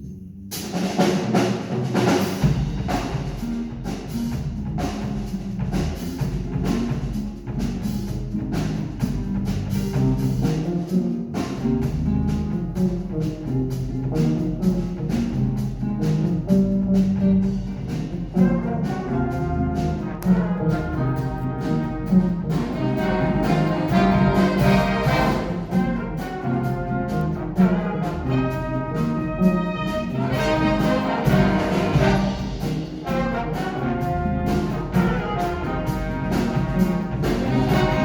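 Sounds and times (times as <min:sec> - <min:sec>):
brass instrumental music: 0:00.5 - 0:38.0
steady drum beat: 0:00.5 - 0:38.0.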